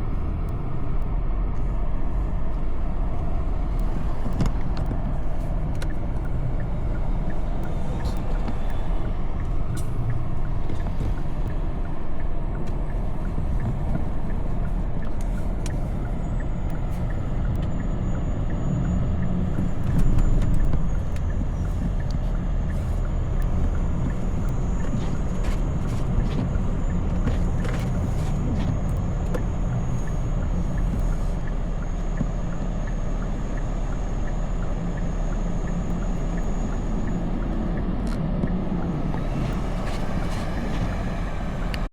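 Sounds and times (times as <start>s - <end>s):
road vehicle rumbling: 0.0s - 41.9s.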